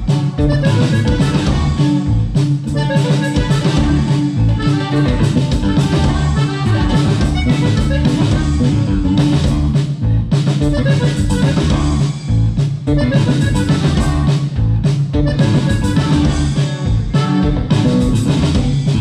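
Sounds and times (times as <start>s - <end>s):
accordion: 0.0s - 19.0s
bajo sexto guitar: 0.0s - 19.0s
drum kit: 0.0s - 19.0s
electric bass: 0.0s - 19.0s.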